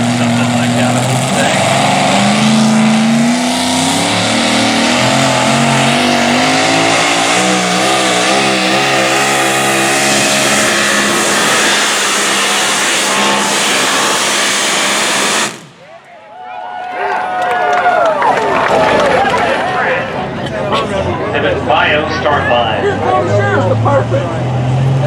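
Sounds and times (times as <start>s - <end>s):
truck engine revving under load: 0.0s - 15.9s, 18.3s - 25.0s.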